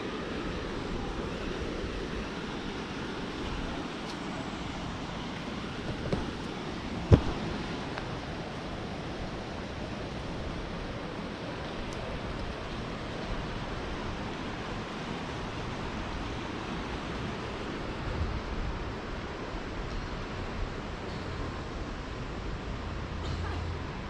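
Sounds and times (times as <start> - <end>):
rushing river and waterfalls: 0.0 - 24.0.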